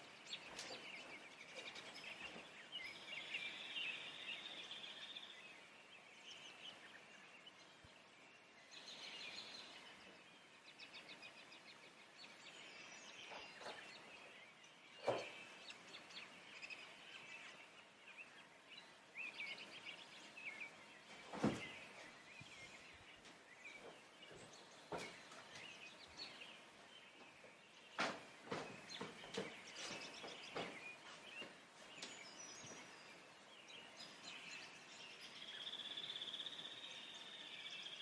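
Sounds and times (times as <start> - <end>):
distant songbirds chirping: 0.0 - 38.0.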